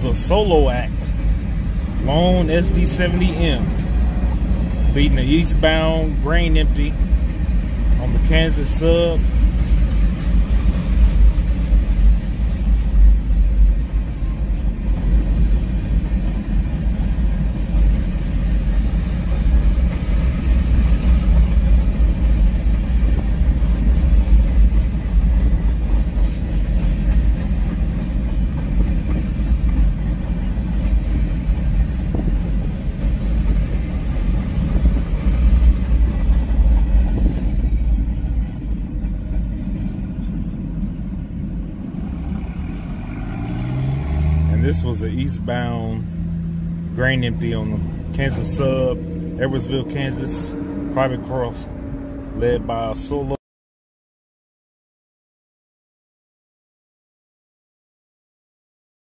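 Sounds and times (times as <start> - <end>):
freight train cars rumbling past: 0.0 - 53.4.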